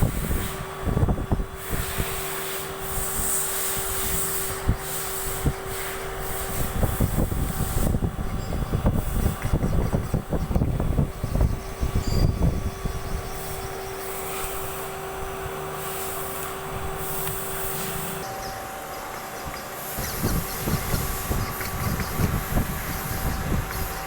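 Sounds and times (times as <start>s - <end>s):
machine tool whine: 0.0s - 24.0s.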